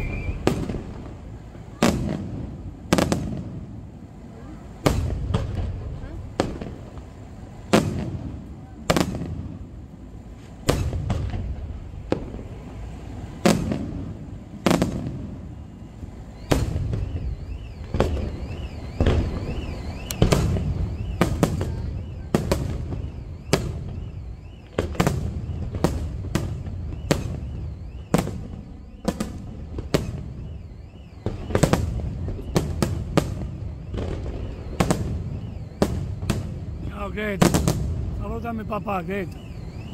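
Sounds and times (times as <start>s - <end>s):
firework shells booming: 0.0s - 39.9s.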